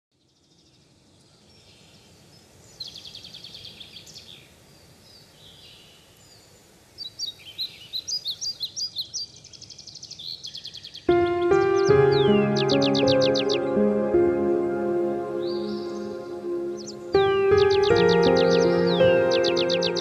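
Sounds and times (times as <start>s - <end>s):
soft outdoor hiss: 0.2s - 20.0s
songbirds singing: 0.2s - 20.0s.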